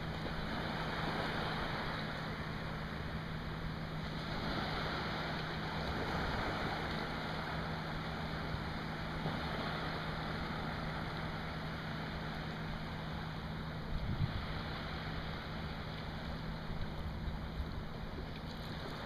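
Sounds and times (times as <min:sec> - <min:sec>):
constant low hum: 0:00.0 - 0:19.0
small waves washing in: 0:00.0 - 0:19.0.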